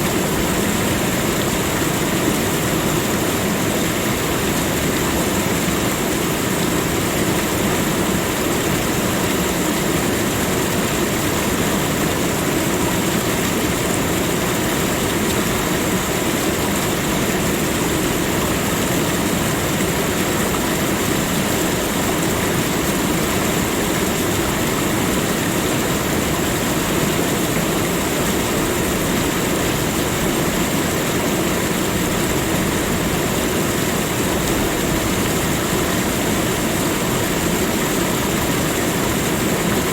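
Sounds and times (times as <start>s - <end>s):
steady rushing nature ambience: 0.0s - 39.9s.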